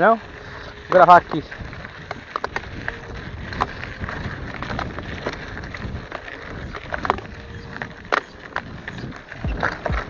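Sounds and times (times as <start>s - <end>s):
bicycle rolling on road: 0.0s - 10.0s
wind buffeting microphone: 0.2s - 10.0s.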